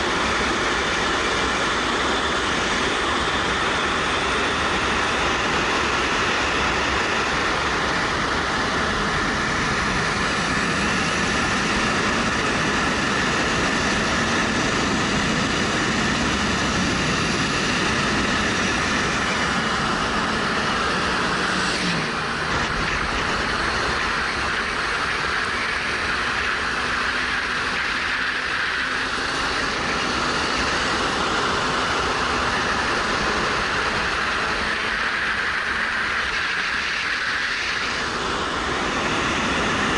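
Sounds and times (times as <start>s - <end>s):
motorcycle engine running: 0.0s - 39.9s
wind rushing over camera: 0.0s - 39.9s.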